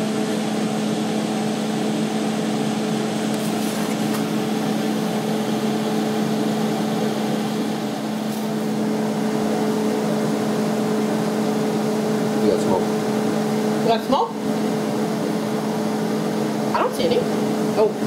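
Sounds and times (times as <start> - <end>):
fan whooshing hum: 0.0 - 18.0.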